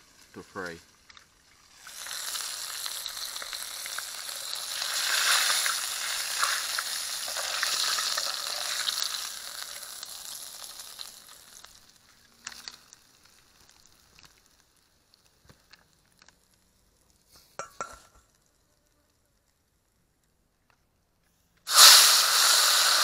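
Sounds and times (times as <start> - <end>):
fish sizzling in hot oil: 0.0 - 18.5, 21.7 - 23.0.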